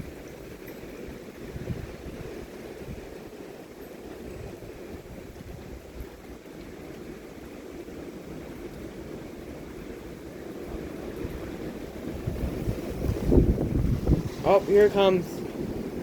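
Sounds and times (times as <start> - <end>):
strong wind blowing: 0.0 - 0.6, 1.2 - 16.0
wind buffeting microphone: 0.0 - 16.0.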